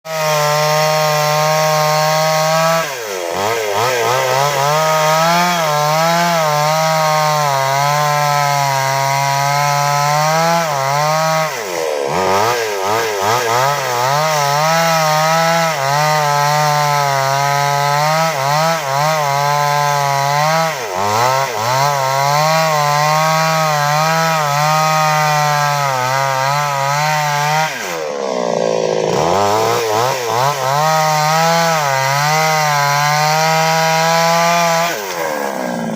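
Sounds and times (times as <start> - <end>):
chainsaw cutting log: 0.0 - 35.9.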